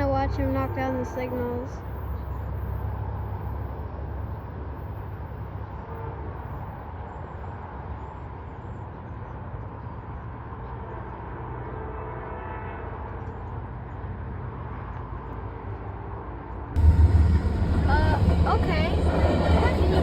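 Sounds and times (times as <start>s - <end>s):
train rumbling past: 0.0s - 7.6s, 10.8s - 20.0s.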